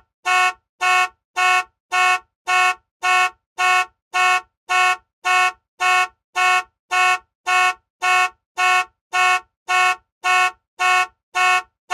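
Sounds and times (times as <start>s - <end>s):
car alarm horn blasts: 0.2s - 11.9s.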